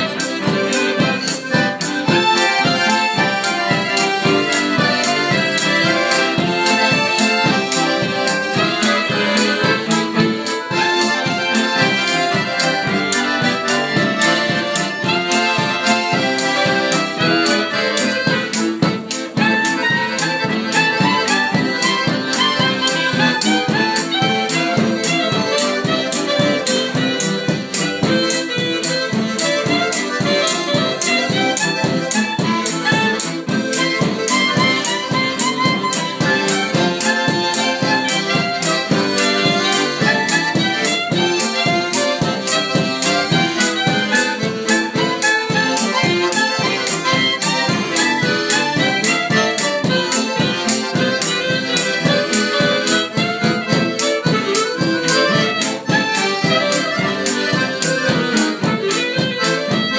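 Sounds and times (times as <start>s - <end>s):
accordions: 0.0s - 59.9s
cello: 0.0s - 59.9s
clarinet: 0.0s - 59.9s
steady percussive beat: 0.0s - 59.9s.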